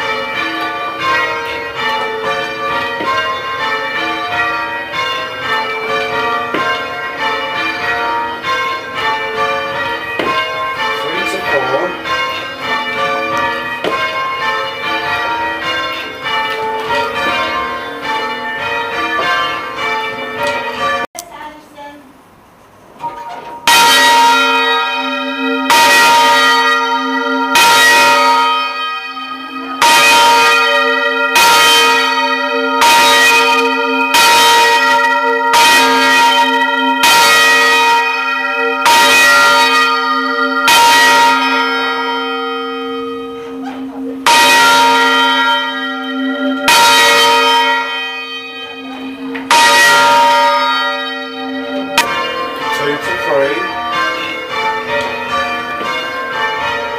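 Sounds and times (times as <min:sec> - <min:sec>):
church bell ringing: 0:00.0 - 0:22.0, 0:23.0 - 0:56.9.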